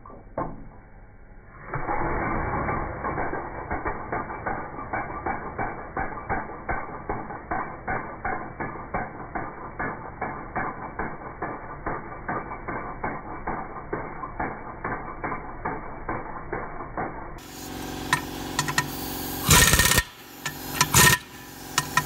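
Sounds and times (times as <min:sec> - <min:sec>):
impact wrench hammering: 0:03.0 - 0:22.0.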